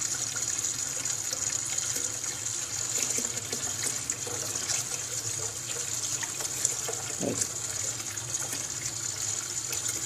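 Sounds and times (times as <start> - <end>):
water running into a pot: 0.0 - 10.0.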